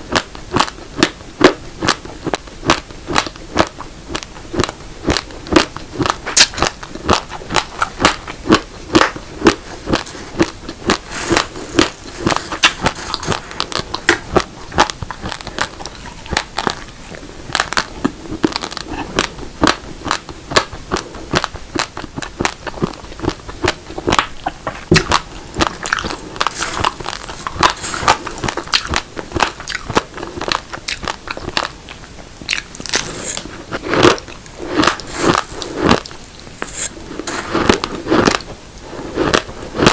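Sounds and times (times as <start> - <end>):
chewing crunchy rice grains: 0.1 - 39.9.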